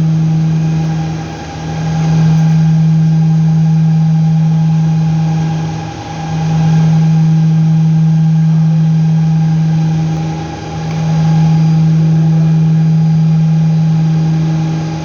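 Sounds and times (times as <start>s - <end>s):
low-pitched mechanical hum: 0.0s - 15.0s.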